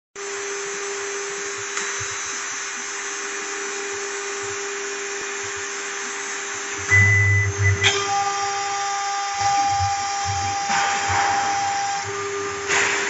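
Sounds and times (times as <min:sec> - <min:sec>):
router spindle whine: 0:00.2 - 0:13.0.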